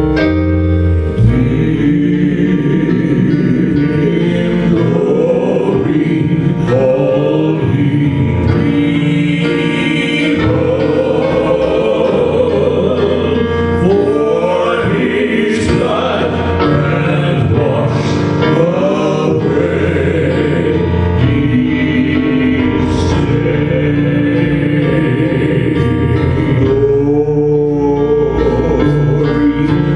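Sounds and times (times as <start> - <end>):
musical accompaniment: 0.0 - 29.9
voices singing together: 1.2 - 29.9.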